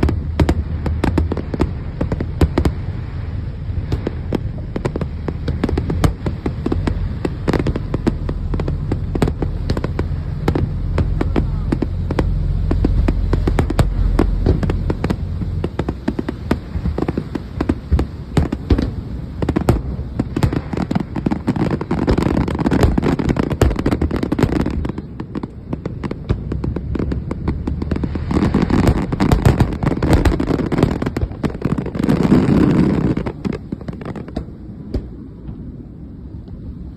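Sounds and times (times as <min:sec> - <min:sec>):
fireworks crackling: 0:00.0 - 0:36.9
heavy low rumble: 0:00.0 - 0:36.9.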